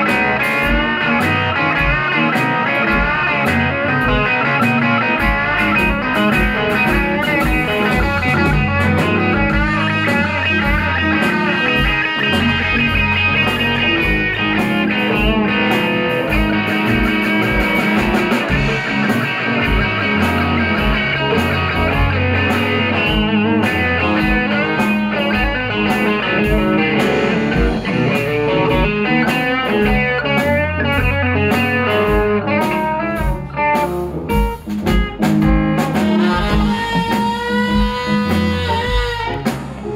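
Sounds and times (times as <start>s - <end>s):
electric bass: 0.0s - 39.9s
electric guitar lead: 0.0s - 39.9s
steady drum beat: 0.0s - 39.9s.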